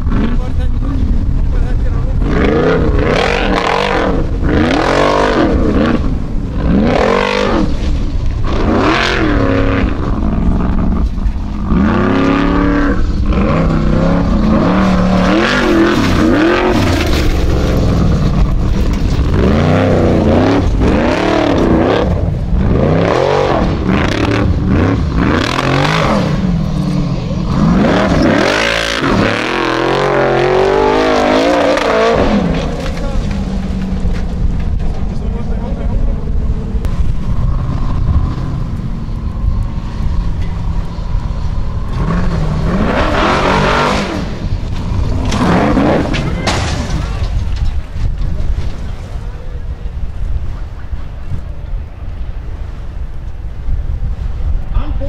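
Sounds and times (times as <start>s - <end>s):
buggy engine revving hard: 0.0s - 34.2s, 36.2s - 49.2s.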